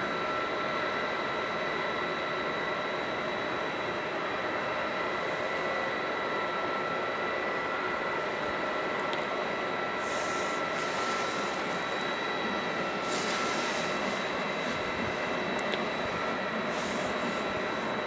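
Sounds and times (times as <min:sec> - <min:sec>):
faint constant whine: 0:00.0 - 0:18.0
fire engine pumps droning: 0:00.0 - 0:18.0.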